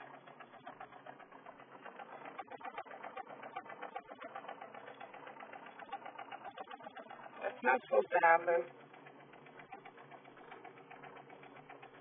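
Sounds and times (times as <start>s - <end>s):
truck engine idling with knocking: 0.0s - 12.0s.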